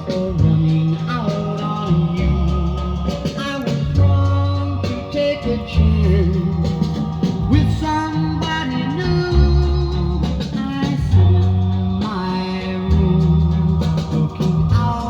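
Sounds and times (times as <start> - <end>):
bass line: 0.0 - 15.0
guitar: 0.0 - 15.0
person singing: 0.0 - 15.0.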